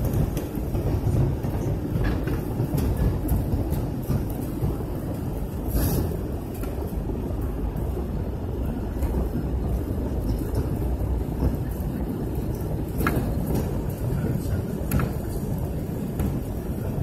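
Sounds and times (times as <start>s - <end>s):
airliner cabin engine and airflow noise: 0.0s - 17.0s.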